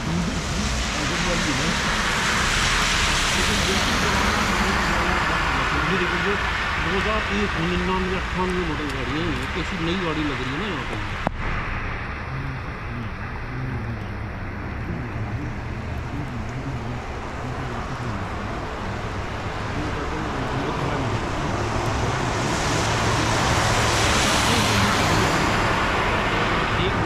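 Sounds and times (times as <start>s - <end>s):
low engine hum: 0.0s - 27.0s
tyres hissing on wet road: 0.0s - 27.0s.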